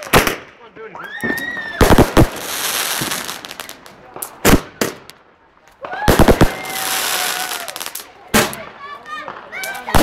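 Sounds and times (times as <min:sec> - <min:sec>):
fireworks bangs: 0:00.0 - 0:10.0
fireworks whistling: 0:01.0 - 0:05.2, 0:05.9 - 0:10.0
fireworks crackling hiss: 0:01.4 - 0:10.0.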